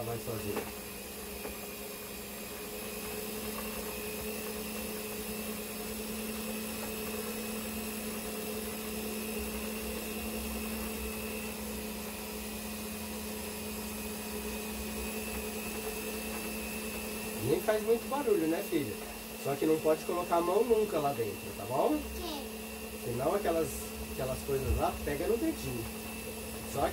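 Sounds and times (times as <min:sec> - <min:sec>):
electric stand mixer motor hum: 0:00.0 - 0:26.9.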